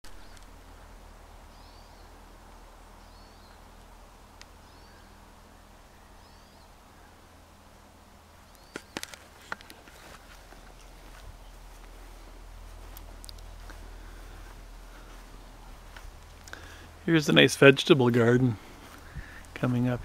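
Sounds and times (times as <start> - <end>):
low hum: 0.0 - 20.0
distant bird chirping: 0.1 - 7.6, 8.4 - 20.0.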